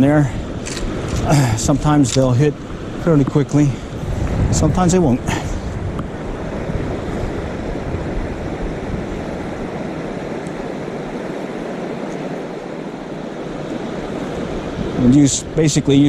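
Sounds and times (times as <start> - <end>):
river current rushing: 0.0 - 16.0
wind rumbling on microphone: 0.0 - 16.0.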